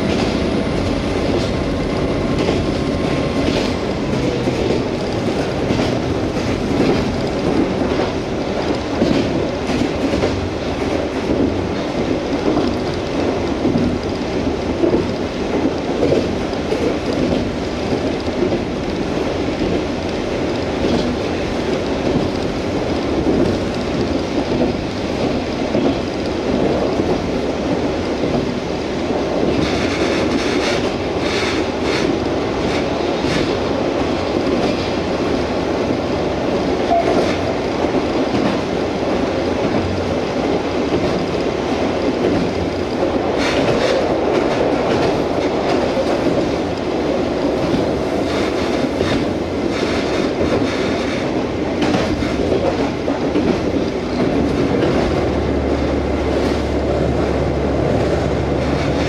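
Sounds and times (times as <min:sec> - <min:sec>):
railcar engine and wheels rumbling: 0:00.0 - 0:59.0
wheels clicking on rails: 0:00.0 - 0:59.0.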